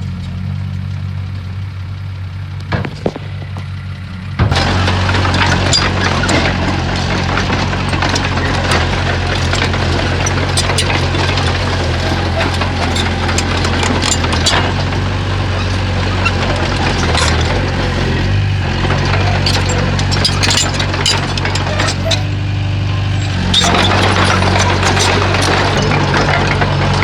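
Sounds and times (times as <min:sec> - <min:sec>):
bulldozer diesel engine running: 0:00.0 - 0:27.0
sharp knocks and clatter: 0:02.6 - 0:27.0.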